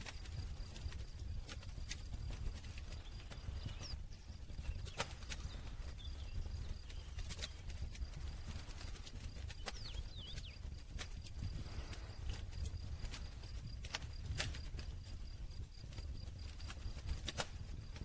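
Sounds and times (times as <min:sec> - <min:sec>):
burning wood popping and snapping: 0:00.0 - 0:18.0
low rumble of flames: 0:00.0 - 0:18.0.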